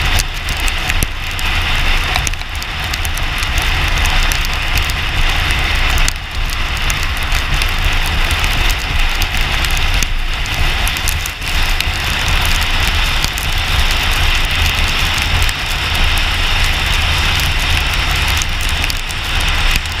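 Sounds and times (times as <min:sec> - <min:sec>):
tyres hissing on wet road: 0:00.0 - 0:20.0
wind buffeting microphone: 0:00.0 - 0:20.0.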